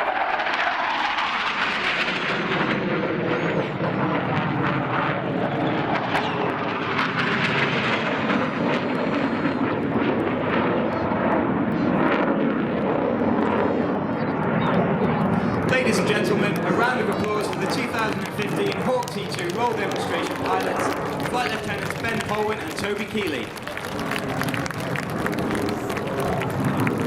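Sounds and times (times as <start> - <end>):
jet aircraft flying by: 0.0 - 27.0.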